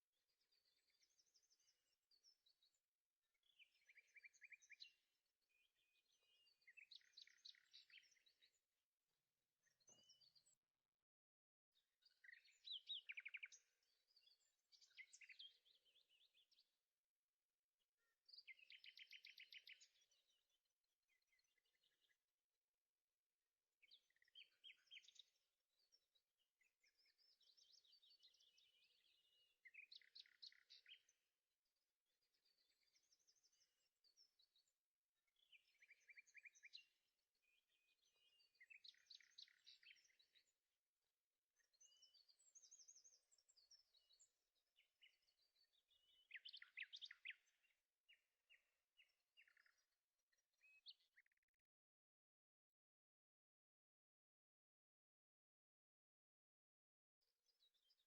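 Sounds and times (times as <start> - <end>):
songbird chirping and trilling: 0.0 - 51.7, 57.2 - 58.0.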